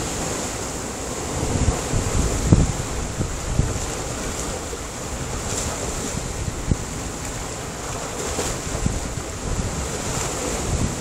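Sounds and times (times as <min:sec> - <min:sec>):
waves breaking on rocks: 0:00.0 - 0:11.0.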